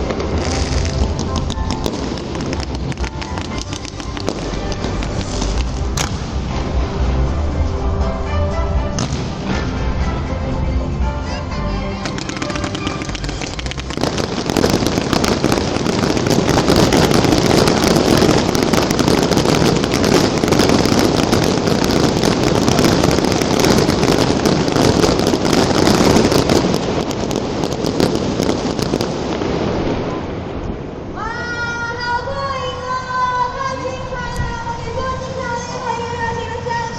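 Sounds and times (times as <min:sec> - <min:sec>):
music: 0:00.0 - 0:27.1, 0:33.4 - 0:36.9
fireworks crackling bursts: 0:00.0 - 0:31.7.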